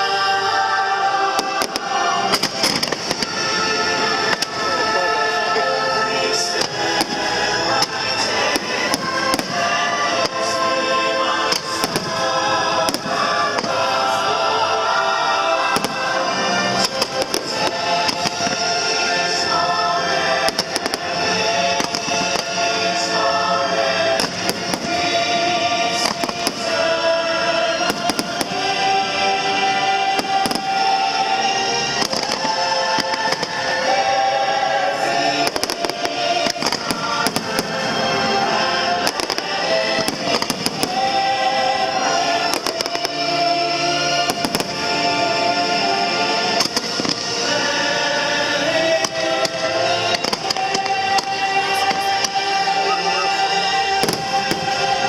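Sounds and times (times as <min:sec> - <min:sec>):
loud show music: 0:00.0 - 0:55.0
fireworks bangs: 0:01.1 - 0:05.1, 0:06.3 - 0:14.4, 0:15.1 - 0:55.0.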